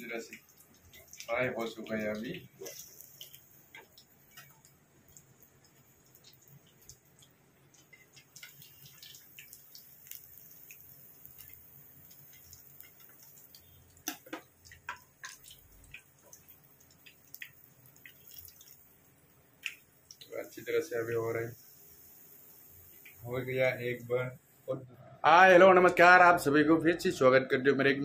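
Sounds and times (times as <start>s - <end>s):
fish sizzling in hot oil: 0.0s - 24.7s.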